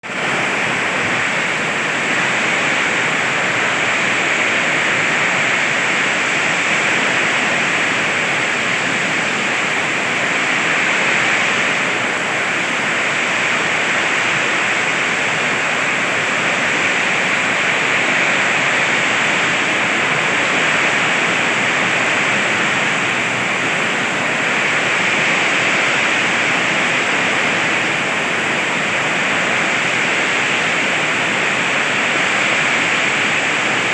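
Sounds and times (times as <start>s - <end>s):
heavy rain in strong wind: 0.0s - 33.9s.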